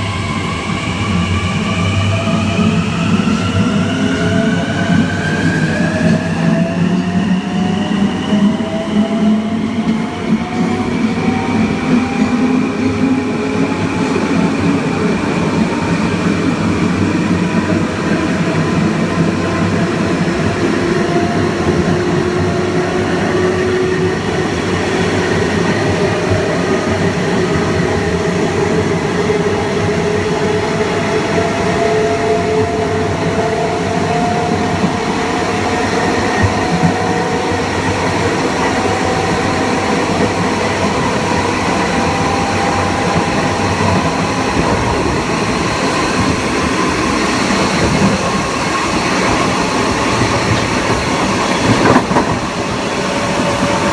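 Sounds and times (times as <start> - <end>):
rail running noise: 0.0 - 53.9.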